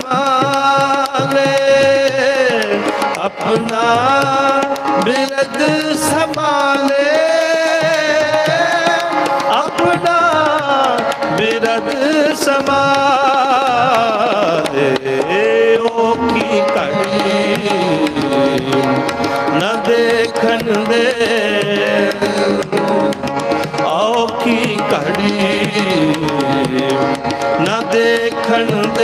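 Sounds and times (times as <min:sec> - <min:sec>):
harmonium: 0:00.0 - 0:29.0
tabla beat: 0:00.0 - 0:29.0.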